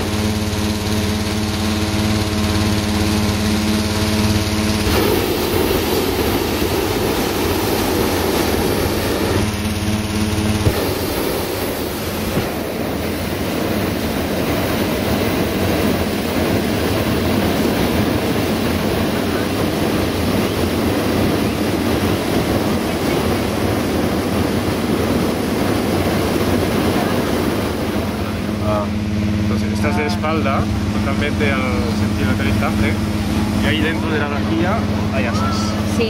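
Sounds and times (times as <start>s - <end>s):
propane burner roaring: 0.0s - 36.0s.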